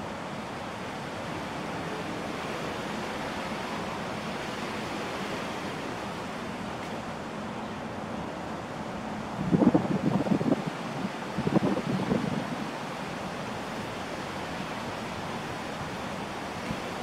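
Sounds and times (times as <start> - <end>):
open air rushing noise: 0.0 - 17.0.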